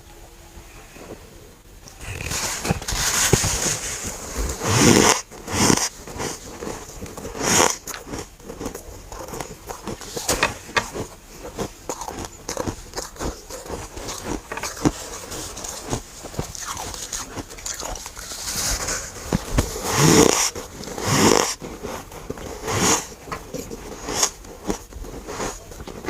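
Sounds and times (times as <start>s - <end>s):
crackling chewing: 1.8s - 26.0s
frost crunching bites: 1.9s - 26.0s.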